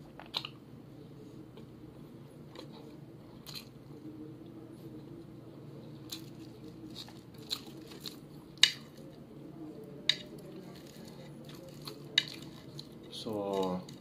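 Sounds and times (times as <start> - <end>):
quiet chewing: 0.0 - 0.6, 1.2 - 14.0
low steady hum: 0.0 - 14.0.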